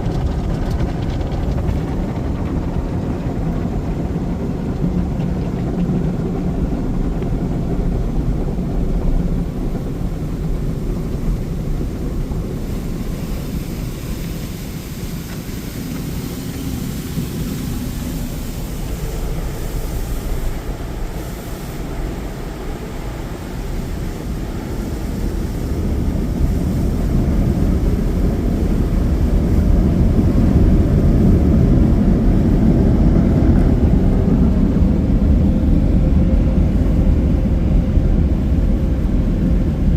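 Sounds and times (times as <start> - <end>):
car wash machinery rumbling: 0.0 - 39.9.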